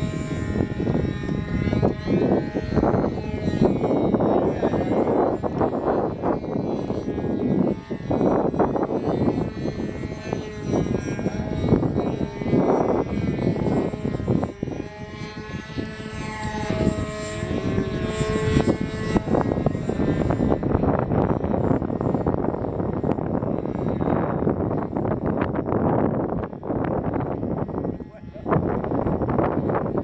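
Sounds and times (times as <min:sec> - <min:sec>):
model airplane engines buzzing: 0:00.0 - 0:30.0.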